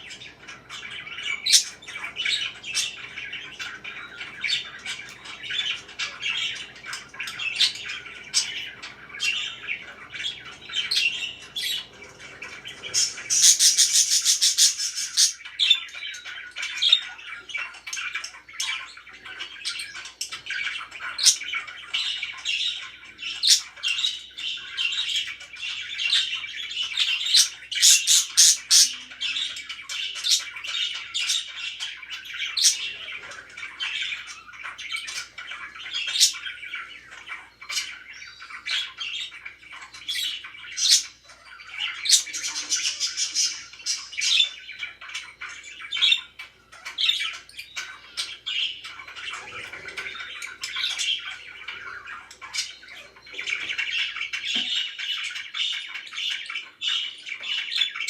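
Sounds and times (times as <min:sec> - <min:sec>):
parakeets chirping and squawking: 0:00.0 - 0:58.0.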